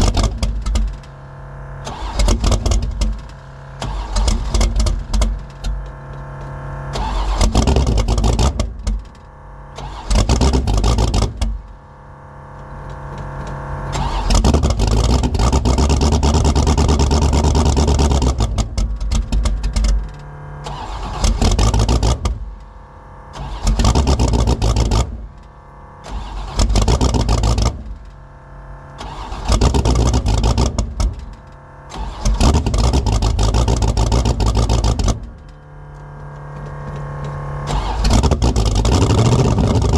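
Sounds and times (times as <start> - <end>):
car engine revving and idling roughly: 0.0 - 39.9.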